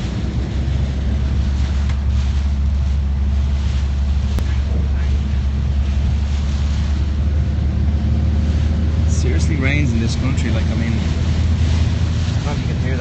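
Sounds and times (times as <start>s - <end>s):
van engine rumble: 0.0s - 13.0s
wet tyre noise: 0.0s - 13.0s.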